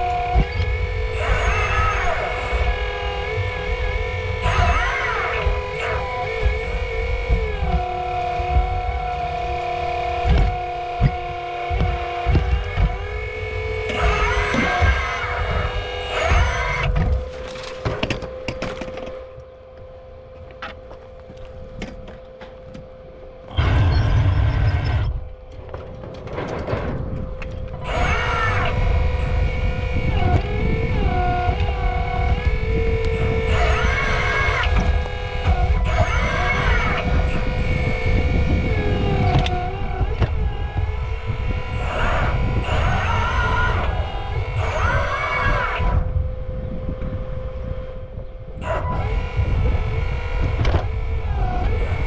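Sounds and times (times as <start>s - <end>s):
low rumble: 0.0s - 22.3s, 23.3s - 52.0s
hydraulic pump motor whining: 0.0s - 52.0s.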